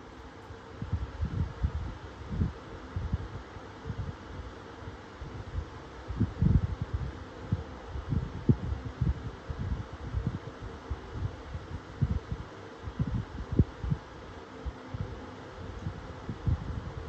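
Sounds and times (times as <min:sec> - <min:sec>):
airflow buffeting microphone: 0:00.0 - 0:04.6, 0:05.2 - 0:17.0
electric fans running: 0:00.0 - 0:17.0.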